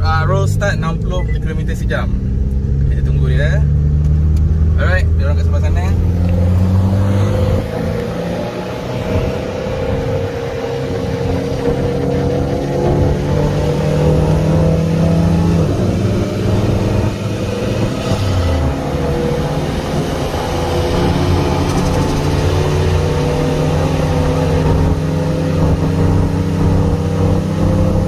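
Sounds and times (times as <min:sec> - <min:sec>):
car engines at highway speed: 0:00.0 - 0:28.0.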